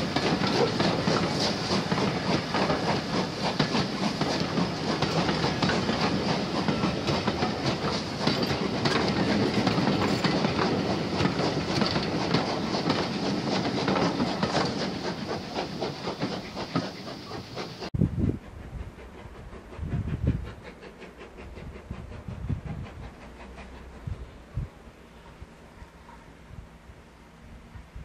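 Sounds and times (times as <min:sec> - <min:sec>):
train wheels clattering on rails: 0:00.0 - 0:26.3.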